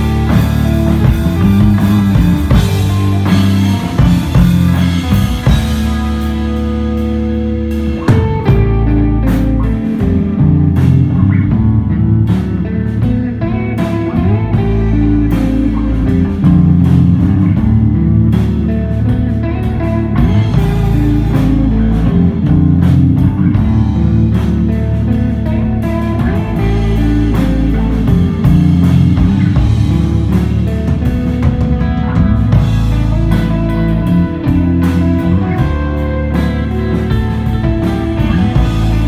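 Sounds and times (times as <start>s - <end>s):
drum kit with cymbal strokes: 0.0s - 39.0s
electric guitar: 0.0s - 39.0s
held bass notes: 0.0s - 39.0s.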